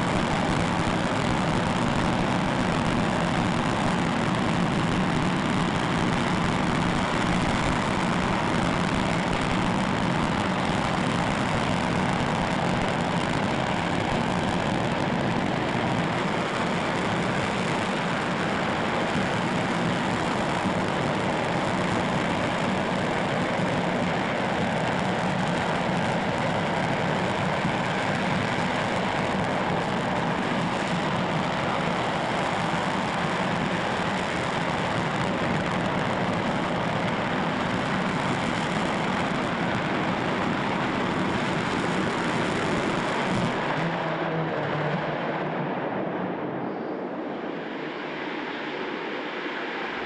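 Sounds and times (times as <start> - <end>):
dull rushing noise: 0.0 - 50.0
rocket engine roaring: 0.0 - 50.0.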